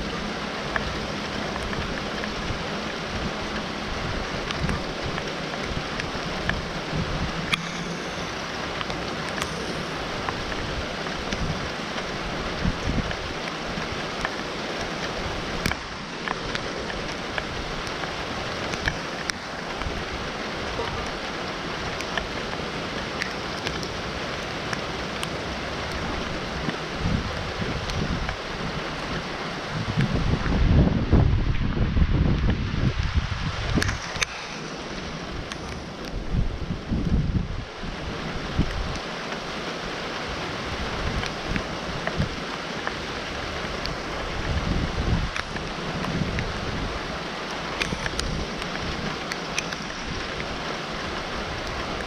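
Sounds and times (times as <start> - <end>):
raindrops tapping close: 0.0 - 52.0
steady rain falling: 0.0 - 52.0.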